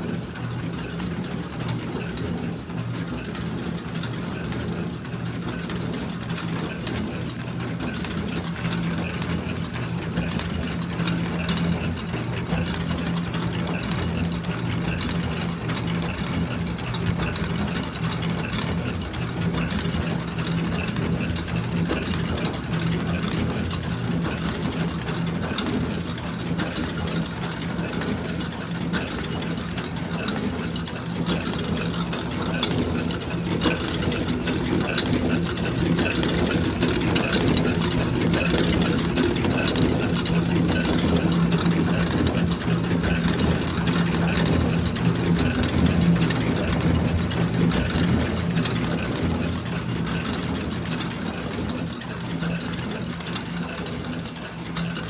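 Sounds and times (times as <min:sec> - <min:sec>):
fast mechanical clatter: 0:00.0 - 0:55.0
washing machine motor hum: 0:00.0 - 0:55.0.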